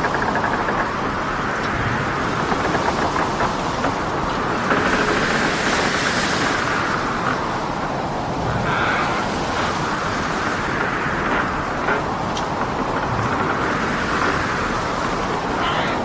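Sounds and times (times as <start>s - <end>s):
waves breaking: 0.0s - 16.0s.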